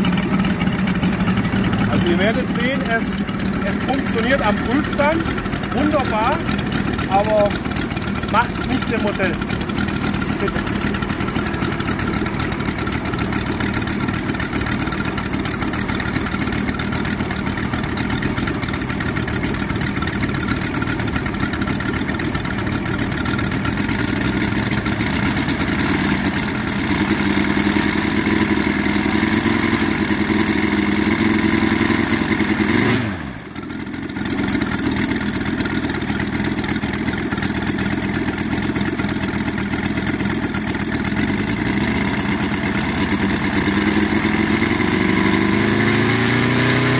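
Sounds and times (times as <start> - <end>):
model aircraft engine running: 0.0 - 46.9.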